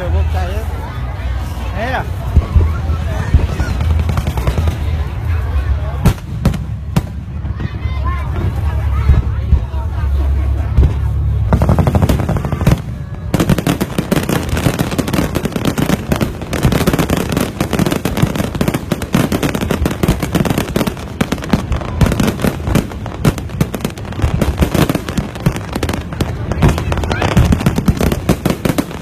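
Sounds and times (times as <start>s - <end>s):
fireworks crackling: 0.0s - 29.0s.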